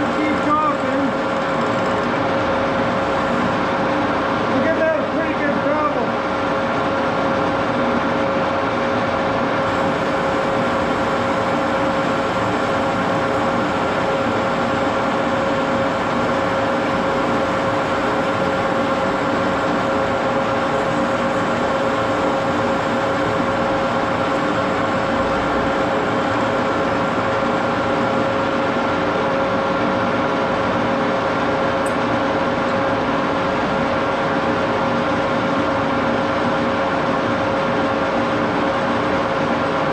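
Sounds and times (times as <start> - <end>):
lathe running steadily: 0.0 - 39.9.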